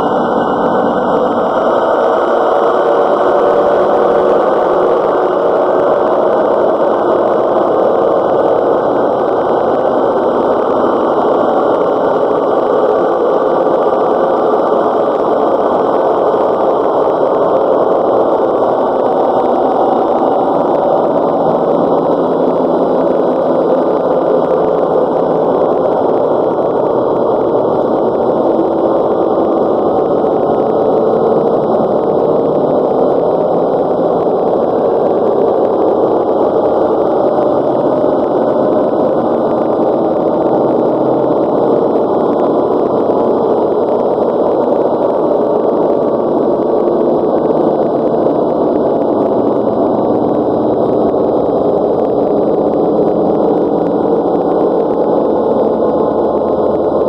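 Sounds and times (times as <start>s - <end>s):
loud muffled steady noise: 0.0s - 57.0s.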